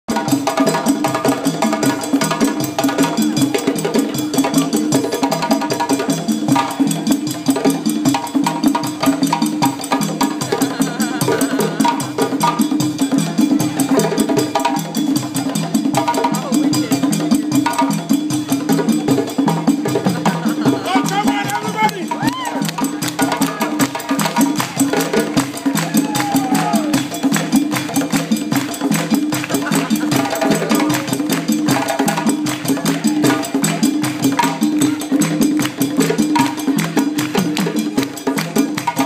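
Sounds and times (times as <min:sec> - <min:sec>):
djembe drum ensemble: 0:00.1 - 0:39.0.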